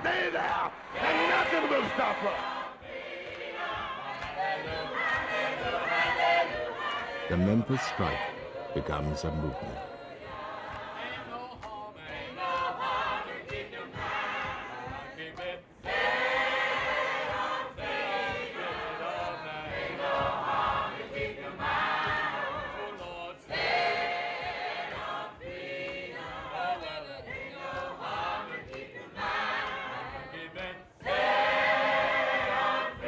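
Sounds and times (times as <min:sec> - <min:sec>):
choir singing gospel song: 0:00.0 - 0:33.0.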